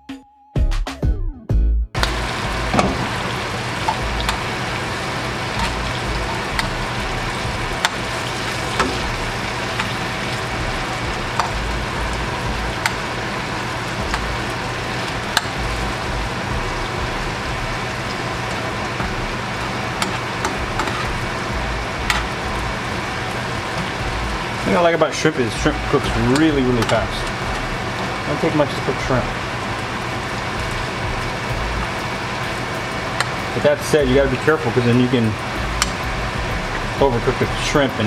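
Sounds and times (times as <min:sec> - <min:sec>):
shrimp sizzling in butter: 0:02.0 - 0:38.0.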